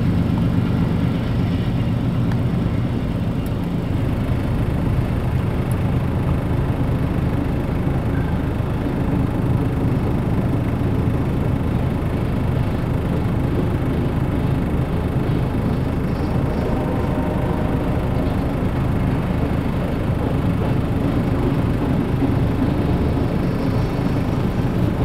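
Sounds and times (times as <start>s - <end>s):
freight train wheels rumbling on rails: 0.0s - 25.0s.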